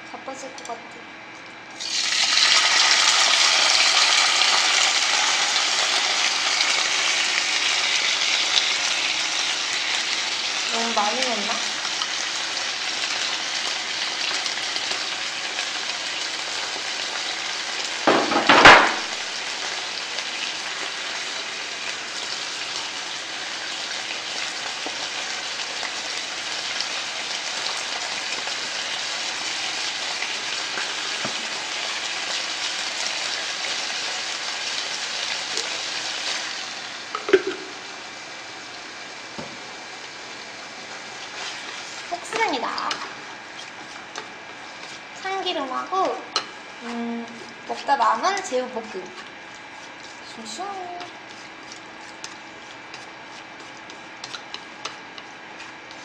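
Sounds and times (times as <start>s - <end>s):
meat sizzling in a frying pan: 1.8s - 56.0s.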